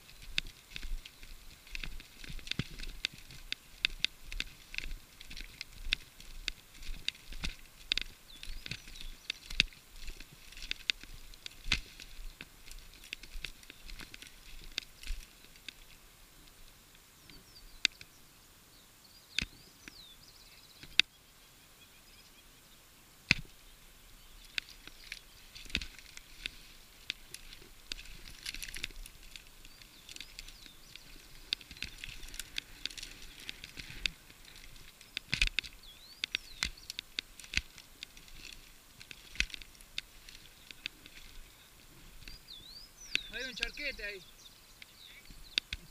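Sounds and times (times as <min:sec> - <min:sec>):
bike tyres crackling over reeds: 0:00.0 - 0:18.3, 0:23.2 - 0:45.9.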